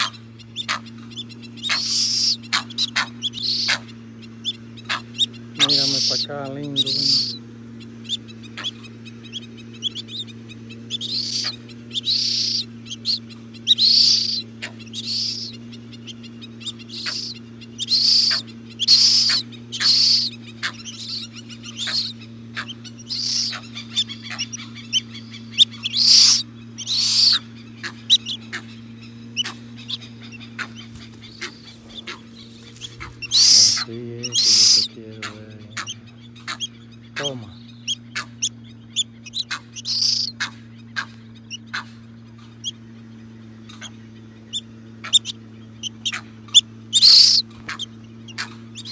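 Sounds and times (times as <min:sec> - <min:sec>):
chick peeping calls: 0:00.0 - 0:48.9
steady low hum: 0:00.0 - 0:48.9.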